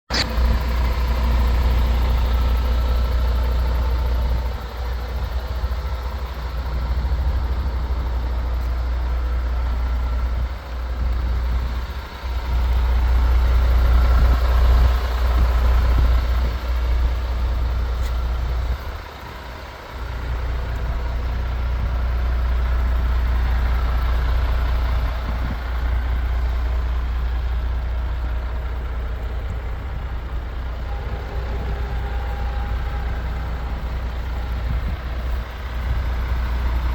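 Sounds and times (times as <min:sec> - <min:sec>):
diesel truck engine idling: 0:00.1 - 0:36.9.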